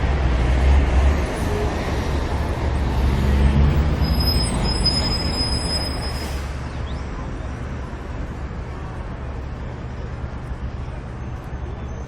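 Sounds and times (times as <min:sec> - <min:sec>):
heavy traffic rumble: 0:00.0 - 0:12.0.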